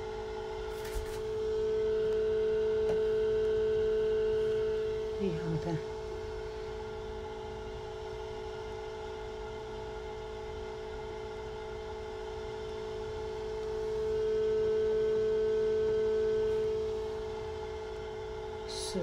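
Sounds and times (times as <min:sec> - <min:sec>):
egg incubator humming: 0:00.0 - 0:19.0.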